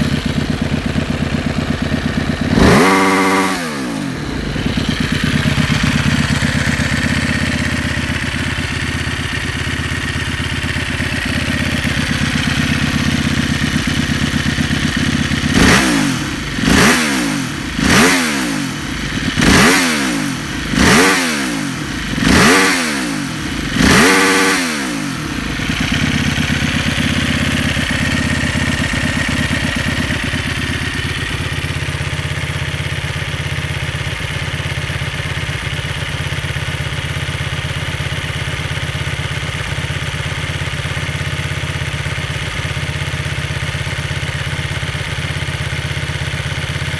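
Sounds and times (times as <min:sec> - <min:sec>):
motorcycle engine idling: 0:00.0 - 0:46.9
motorcycle engine revving: 0:00.0 - 0:46.9.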